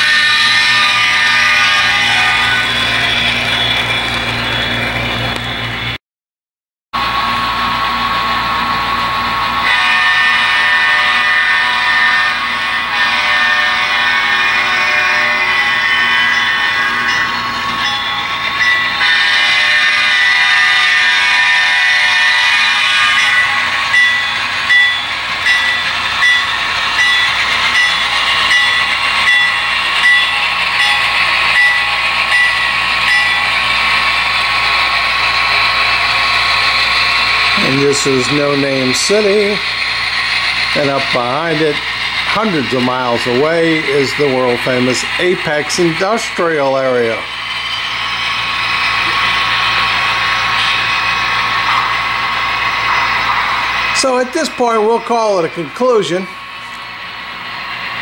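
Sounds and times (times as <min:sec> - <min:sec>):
locomotive bell ringing: 0:00.0 - 0:06.0, 0:07.1 - 0:58.0
model train drone: 0:00.0 - 0:06.0, 0:07.0 - 0:58.0.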